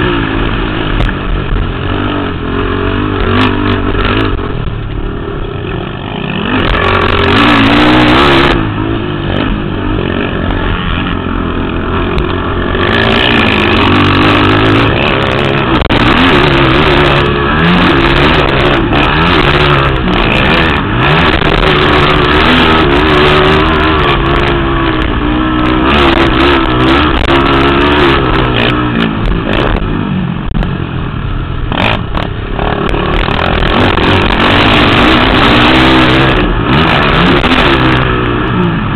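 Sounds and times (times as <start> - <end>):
quad engines revving: 0.0 - 30.9, 31.6 - 38.9.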